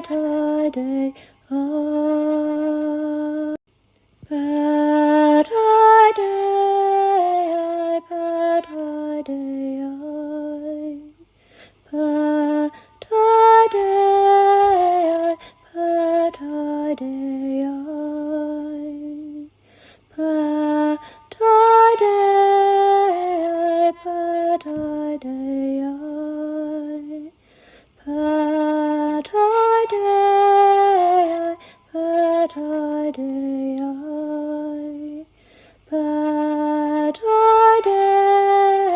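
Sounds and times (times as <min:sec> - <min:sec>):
woman singing unaccompanied: 0:00.0 - 0:03.6, 0:04.2 - 0:38.9.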